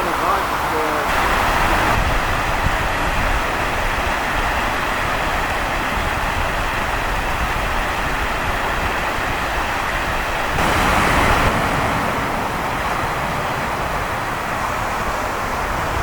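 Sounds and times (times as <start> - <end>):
waves washing: 0.0 - 16.0
wind rumble on microphone: 1.1 - 16.0.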